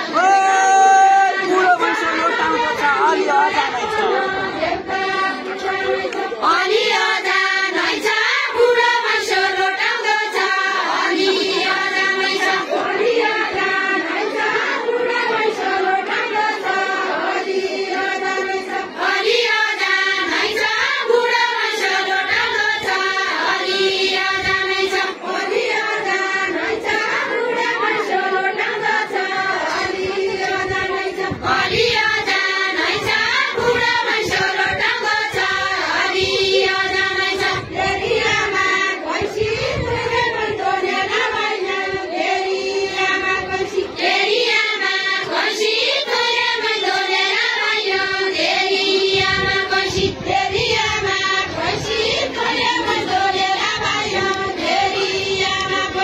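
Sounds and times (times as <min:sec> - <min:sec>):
group singing folk song in chorus: 0:00.0 - 0:56.0.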